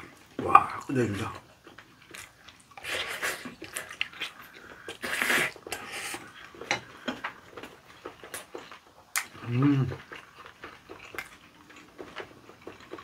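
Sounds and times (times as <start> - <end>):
wet chewing and lip-smacking: 1.4 - 13.0.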